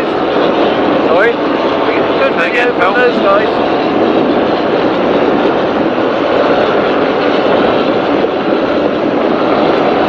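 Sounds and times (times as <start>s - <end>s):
powerboat engine roar: 0.0s - 10.0s
water rushing: 0.0s - 10.0s
wind noise: 0.0s - 10.0s.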